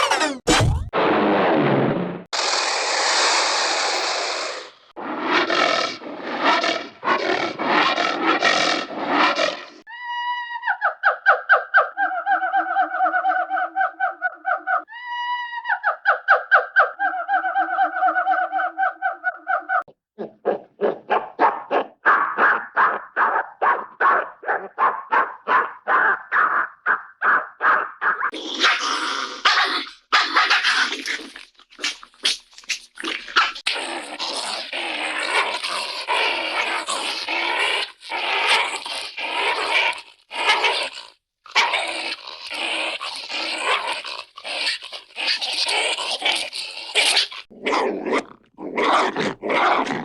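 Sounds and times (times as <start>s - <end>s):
cartoon dog sounds: 0.0s - 1.0s, 6.3s - 50.0s
cartoon dog growling: 0.0s - 1.5s, 2.4s - 9.9s, 17.0s - 23.6s, 24.2s - 50.0s.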